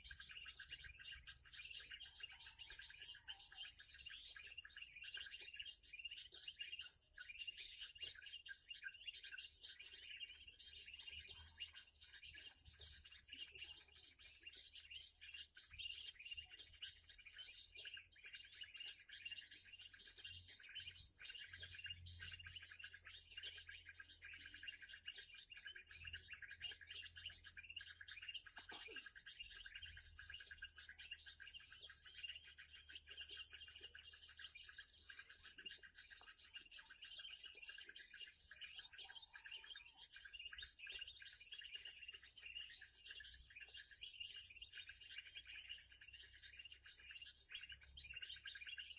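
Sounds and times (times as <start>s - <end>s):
small birds twittering: 0.0s - 48.9s
small songbirds chirping: 0.0s - 48.9s.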